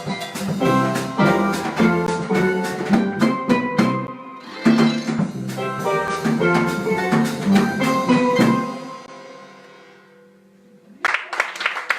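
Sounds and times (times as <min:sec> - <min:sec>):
harp jazz ensemble playing: 0:00.0 - 0:10.4.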